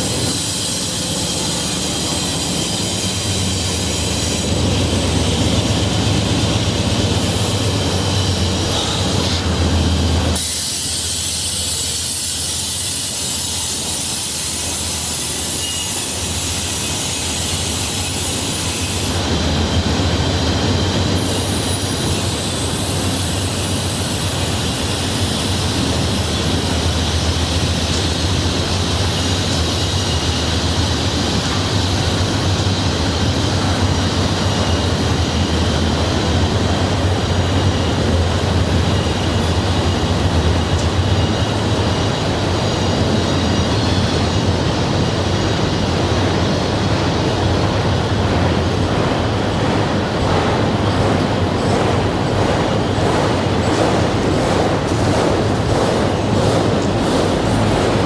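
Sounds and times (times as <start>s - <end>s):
freight train rolling past: 0.0s - 58.0s
wheels on rails: 0.0s - 58.0s.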